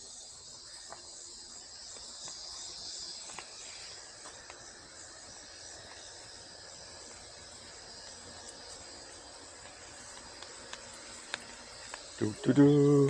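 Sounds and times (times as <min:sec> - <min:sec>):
insects droning: 0:00.0 - 0:13.0
faint ticks: 0:00.6 - 0:13.0.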